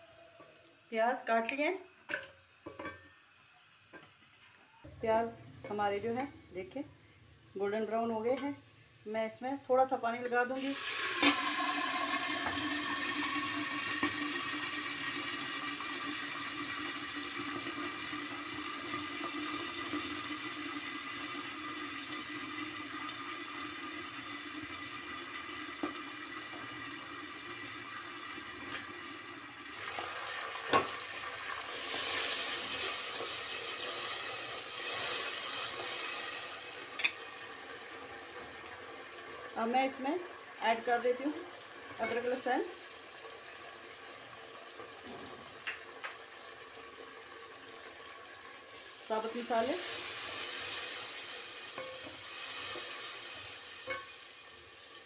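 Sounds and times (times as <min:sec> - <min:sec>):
onions sizzling in hot oil: 0:04.9 - 0:55.0.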